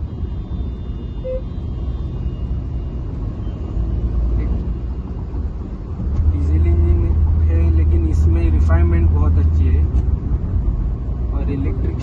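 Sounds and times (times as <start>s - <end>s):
diesel engine rumble inside car: 0.0s - 12.0s
road noise: 0.0s - 12.0s.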